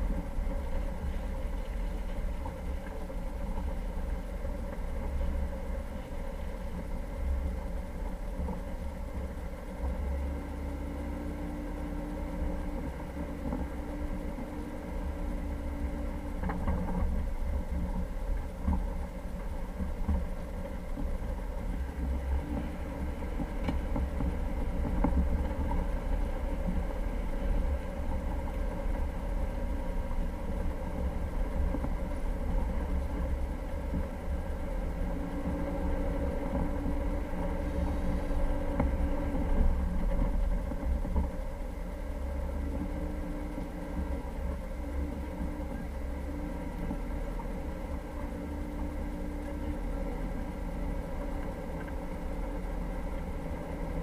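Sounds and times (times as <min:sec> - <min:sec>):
car engine running while driving: 0:00.0 - 0:54.0
constant low rumble: 0:00.0 - 0:54.0.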